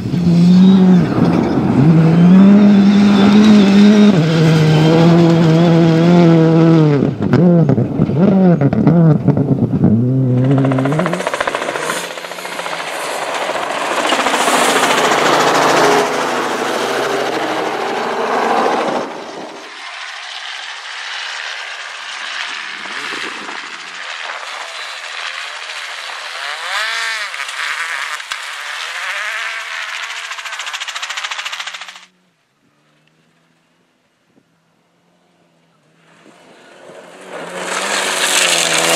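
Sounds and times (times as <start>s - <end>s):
rally car engine revving: 0.0s - 33.6s, 35.2s - 38.9s
rapid exhaust crackle: 0.8s - 32.2s.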